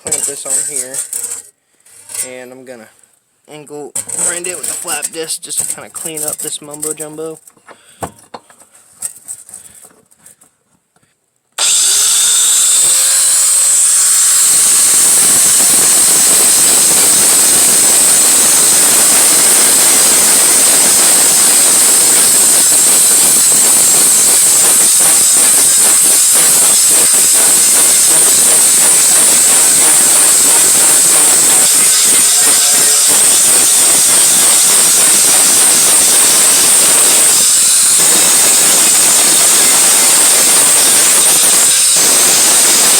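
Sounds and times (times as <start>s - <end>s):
angle grinder grinding metal: 0.0s - 2.5s, 4.0s - 7.0s, 11.6s - 42.9s.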